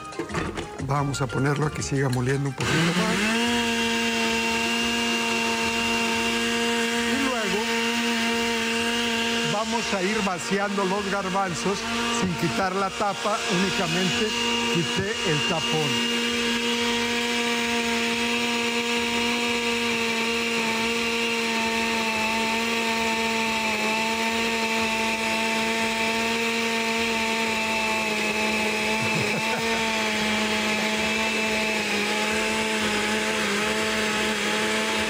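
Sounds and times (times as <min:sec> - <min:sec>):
blender motor buzzing: 0:00.0 - 0:35.0.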